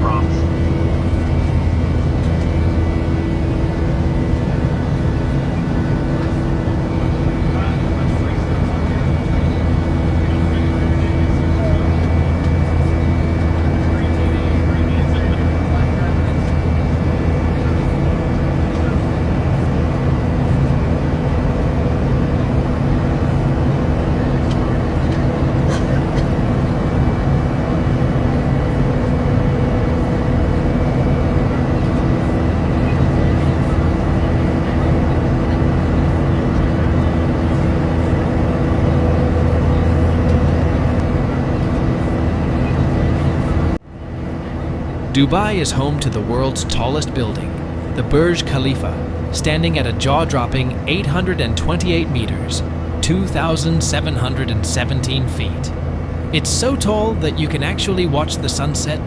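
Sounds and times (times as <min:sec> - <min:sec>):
airplane cabin drone: 0:00.0 - 0:59.0
faint steady whine: 0:00.0 - 0:59.0
jet engine and airflow rumble: 0:00.0 - 0:59.0.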